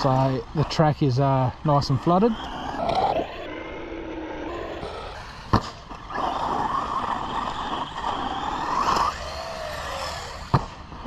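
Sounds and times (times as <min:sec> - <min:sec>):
electric motor whining: 0:01.6 - 0:11.0.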